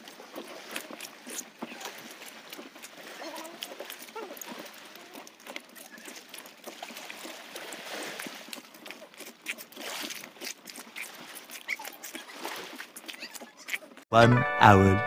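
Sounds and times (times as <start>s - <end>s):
footsteps on coral rubble: 0.0s - 14.0s
water lapping at rocky shore: 0.0s - 14.1s.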